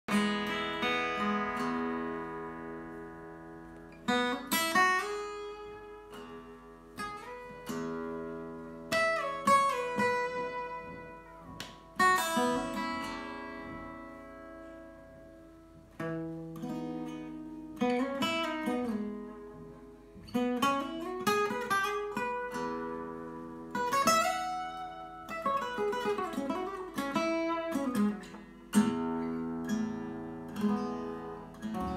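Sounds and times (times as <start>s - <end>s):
acoustic guitar playing blues: 0.1s - 31.9s.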